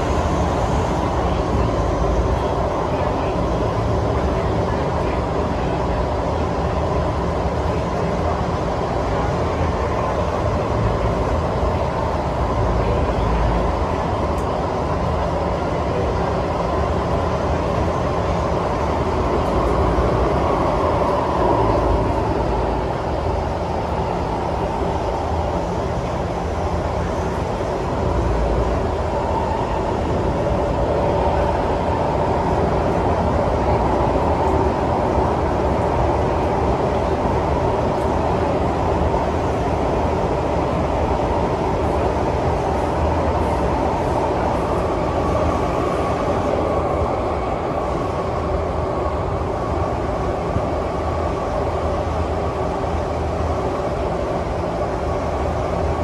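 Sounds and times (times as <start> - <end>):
train cabin hum and rumble: 0.0 - 56.0.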